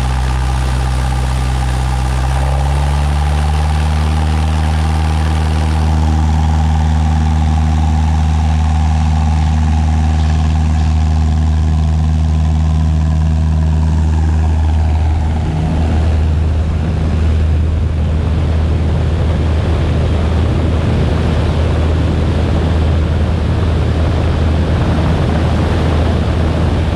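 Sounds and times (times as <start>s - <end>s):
propeller plane engine drone: 0.0s - 26.9s
rushing wind: 0.0s - 26.9s.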